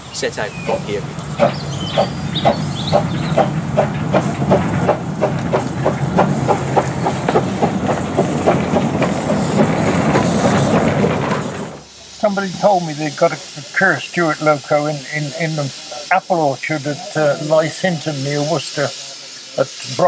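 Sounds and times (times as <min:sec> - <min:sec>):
steam hissing: 0:00.0 - 0:20.0
steam locomotive exhaust chuffs: 0:00.0 - 0:20.0.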